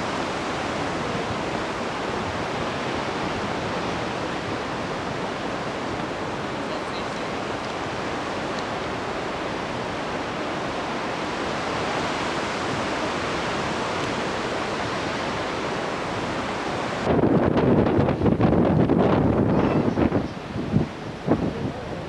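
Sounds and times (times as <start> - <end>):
surf breaking on rocky shore: 0.0 - 22.0
wind buffeting microphone: 0.0 - 22.0.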